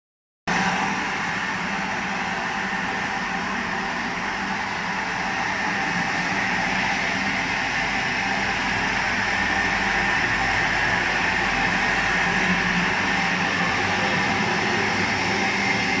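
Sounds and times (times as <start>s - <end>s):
factory machinery humming: 0.5s - 16.0s
thin high whine: 0.5s - 16.0s.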